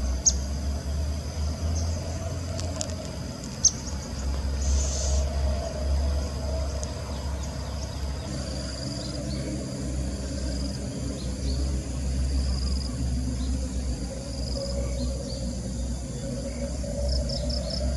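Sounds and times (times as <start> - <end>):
insects droning: 0.0 - 17.9.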